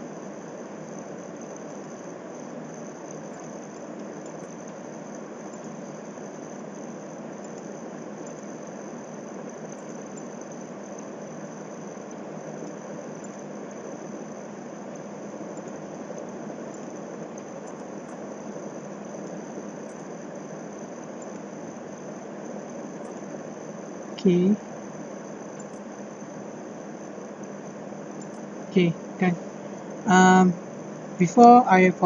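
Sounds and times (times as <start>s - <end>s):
faint high-pitched whine: 0.0s - 32.0s
room noise hiss: 0.0s - 32.0s.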